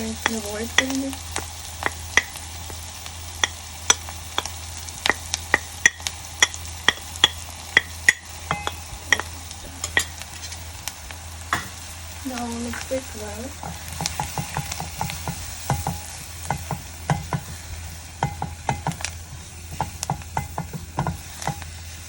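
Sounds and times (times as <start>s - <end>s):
onions frying in butter: 0.0s - 22.0s.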